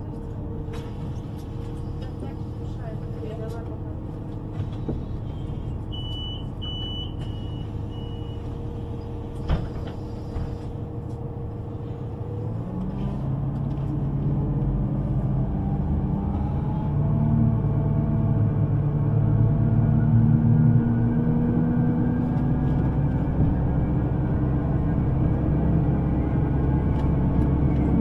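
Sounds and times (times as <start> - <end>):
underground train rumbling: 0.0 - 28.0.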